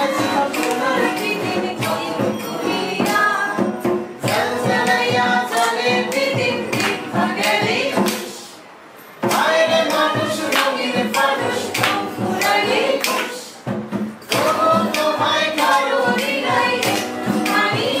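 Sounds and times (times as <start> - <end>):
song with singing over a beat: 0.0 - 18.0.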